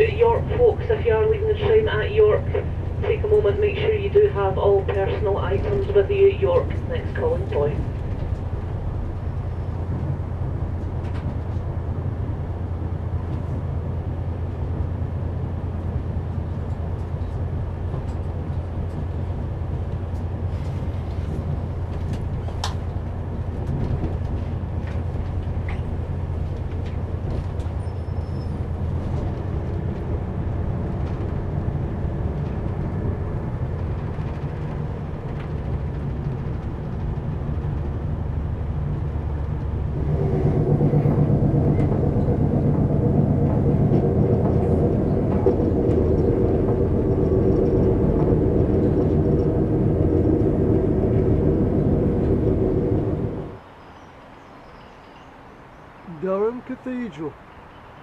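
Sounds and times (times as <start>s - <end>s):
train rumble from inside carriage: 0.0s - 58.0s.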